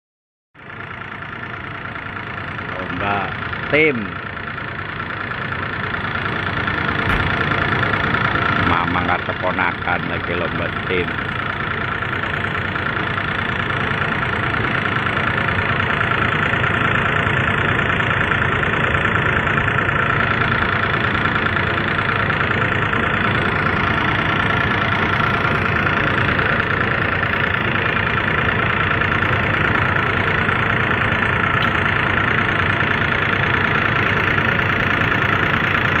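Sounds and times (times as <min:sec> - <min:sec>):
diesel engine running steadily: 0:00.6 - 0:36.0.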